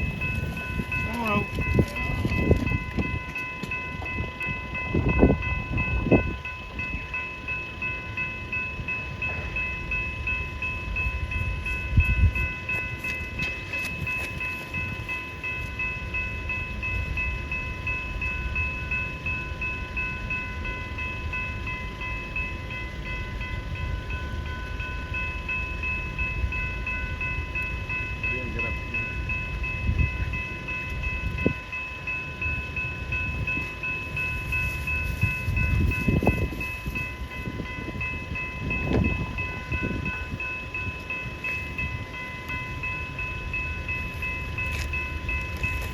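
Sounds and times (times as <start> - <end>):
level crossing warning bells: 0.0 - 45.9
passing train rumble: 0.0 - 45.9.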